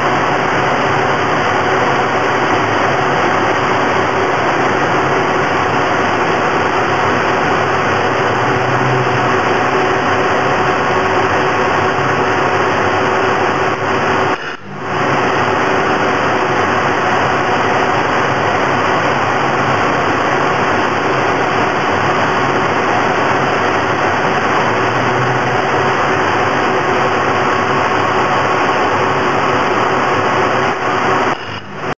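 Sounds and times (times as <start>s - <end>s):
loud machine hiss: 0.0s - 31.9s
faint hum: 0.0s - 32.0s.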